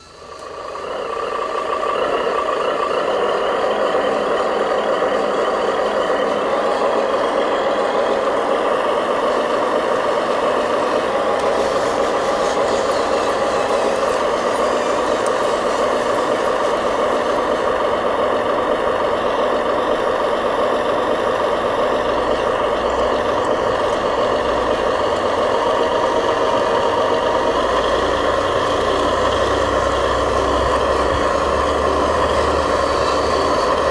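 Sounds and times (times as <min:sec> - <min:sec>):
toy truck engine drone: 0:00.0 - 0:33.9.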